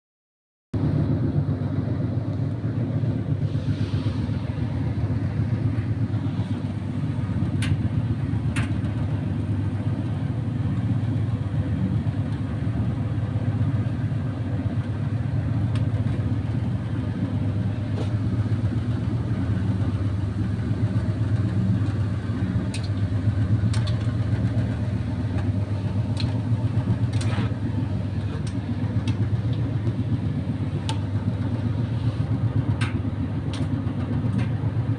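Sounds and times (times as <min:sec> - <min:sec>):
tumble dryer running: 0:00.8 - 0:34.9.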